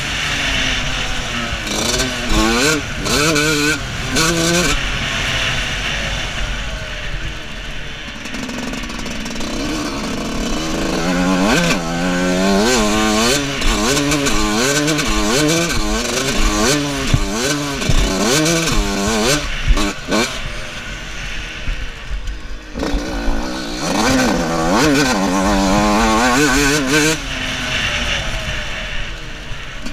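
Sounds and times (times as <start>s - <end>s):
two-stroke motorbike engine revving: 0.0s - 29.9s.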